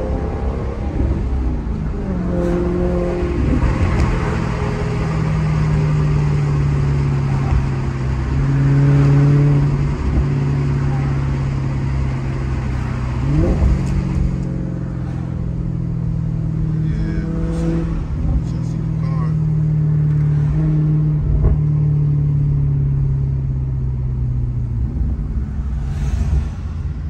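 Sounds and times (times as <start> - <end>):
car engine and exhaust revving: 0.0 - 27.0.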